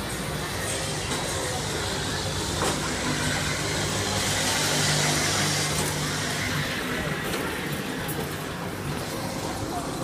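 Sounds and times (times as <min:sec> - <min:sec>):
ride machinery humming: 0:00.0 - 0:10.0.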